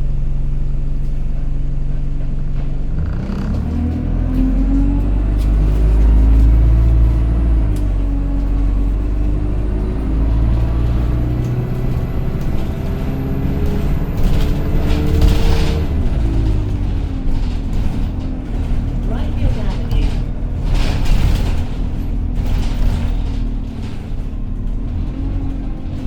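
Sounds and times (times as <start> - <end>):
bus engine pulling: 0.0 - 26.0.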